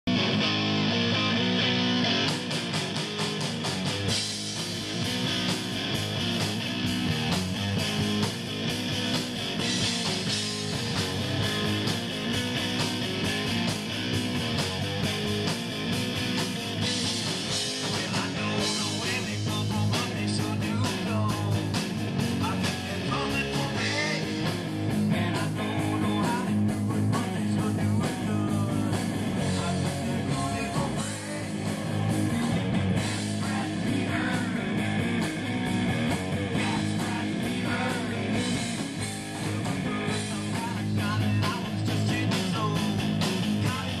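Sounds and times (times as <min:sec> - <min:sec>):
drums: 0:00.0 - 0:44.0
electric guitar: 0:00.0 - 0:44.0.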